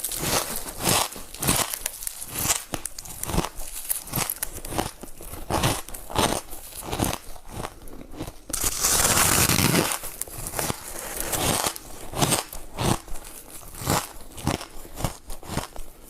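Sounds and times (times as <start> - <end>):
ice crunching in mouth: 0.0 - 16.0.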